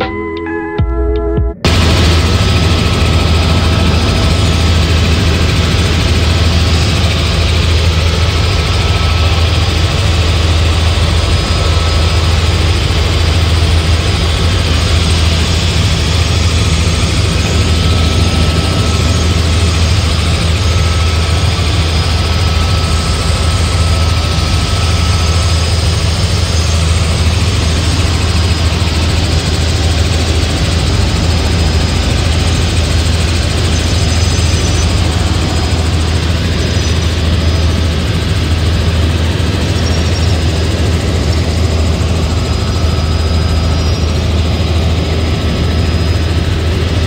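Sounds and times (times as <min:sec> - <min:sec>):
helicopter rotor and engine drone: 0:01.6 - 0:47.0
wind and airframe noise: 0:01.6 - 0:47.0.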